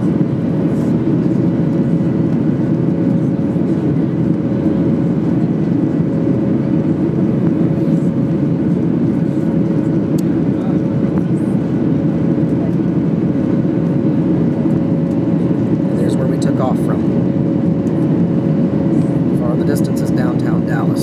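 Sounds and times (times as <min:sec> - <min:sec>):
jet cabin engine noise: 0:00.0 - 0:21.0.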